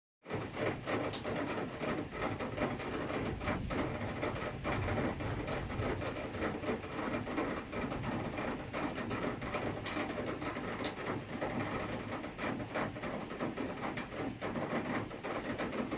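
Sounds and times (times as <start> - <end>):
raindrops tapping hard surfaces: 0.3 - 15.9.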